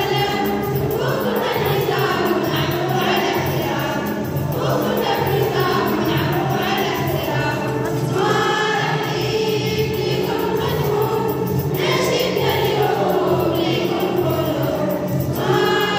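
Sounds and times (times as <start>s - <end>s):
group of voices singing: 0.0s - 15.9s.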